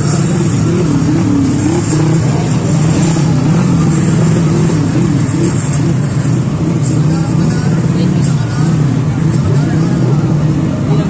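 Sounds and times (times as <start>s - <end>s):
motorcycle engines revving hard: 0.0s - 11.0s.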